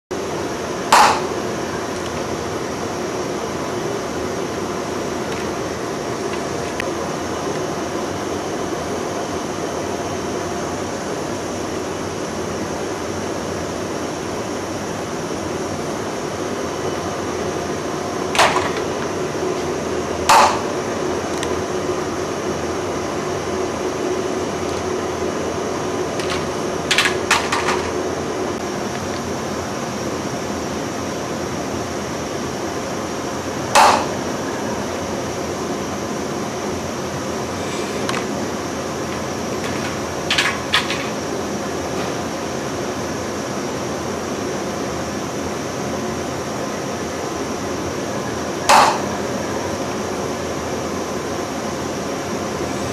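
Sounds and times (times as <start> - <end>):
machine hum: 0.1 - 52.9.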